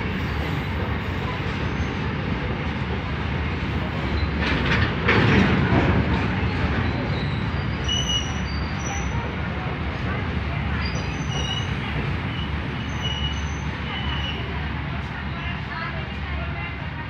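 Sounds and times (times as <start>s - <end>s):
freight train wheels rumbling on rails: 0.0s - 17.0s
train wagons clattering: 0.2s - 16.4s.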